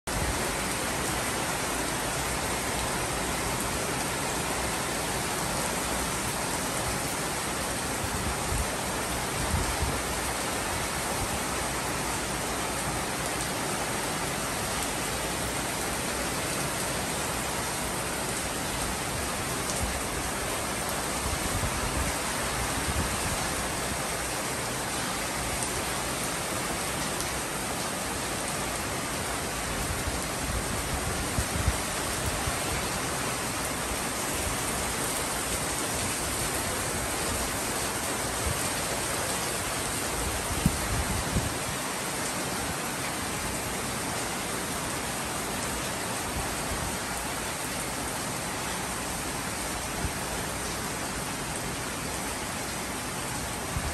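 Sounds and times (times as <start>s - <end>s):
heavy rain on foliage: 0.0s - 53.9s.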